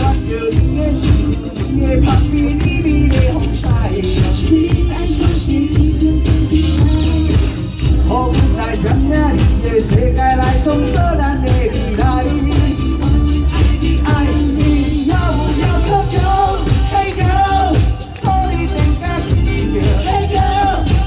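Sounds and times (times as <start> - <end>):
live band playing pop song: 0.0 - 21.0
person singing: 0.0 - 21.0.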